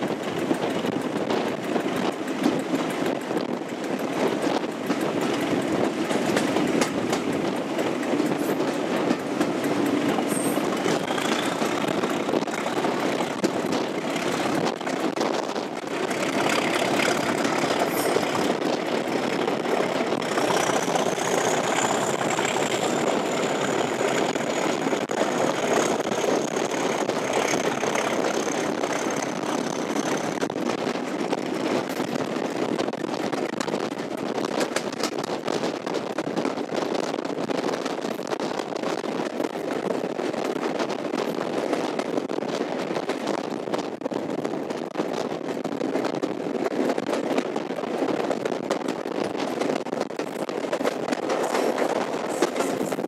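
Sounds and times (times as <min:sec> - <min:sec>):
diesel locomotive engine under load: 0:00.0 - 0:53.0
rushing air and wheel noise: 0:00.0 - 0:53.0.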